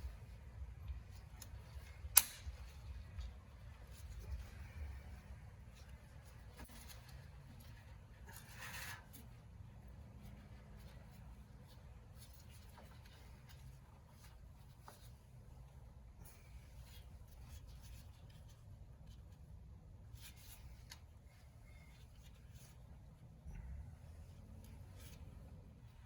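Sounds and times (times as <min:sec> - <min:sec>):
faint low hum: 0:00.0 - 0:26.0
light clicks and scratches: 0:00.0 - 0:26.0.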